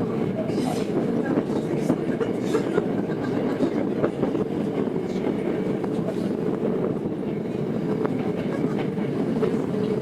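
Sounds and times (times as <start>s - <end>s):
wheels rumbling on rail: 0.0s - 10.0s.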